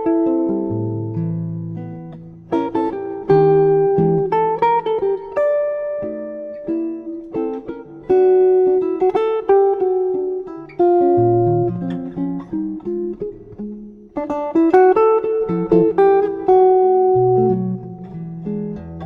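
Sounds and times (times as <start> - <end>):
solo jazz guitar: 0.0 - 19.0.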